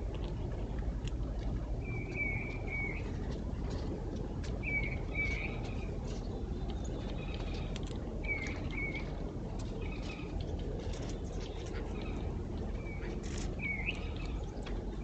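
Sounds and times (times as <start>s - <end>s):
low background rumble: 0.0s - 15.0s
birds chirping: 1.8s - 15.0s.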